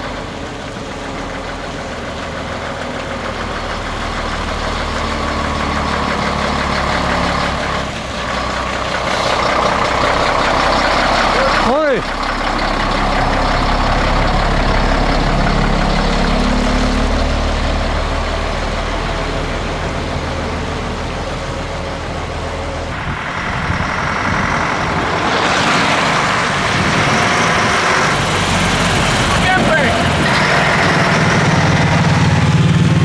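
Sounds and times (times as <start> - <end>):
road noise: 0.0 - 33.0
truck diesel engine droning: 0.0 - 33.0.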